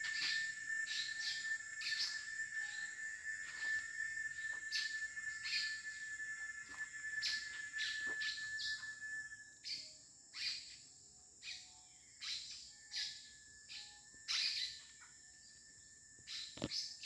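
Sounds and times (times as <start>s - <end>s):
small birds chirping: 0.0s - 10.8s, 11.4s - 15.2s, 16.2s - 17.0s
cicadas droning: 0.0s - 17.0s.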